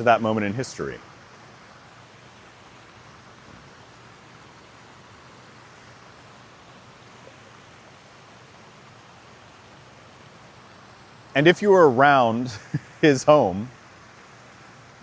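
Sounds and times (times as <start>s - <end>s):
faint microphone hiss: 0.0s - 15.0s.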